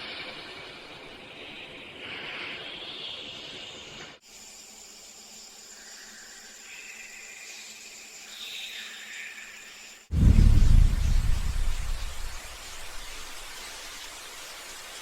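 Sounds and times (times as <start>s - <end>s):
steady hiss: 2.0s - 15.0s.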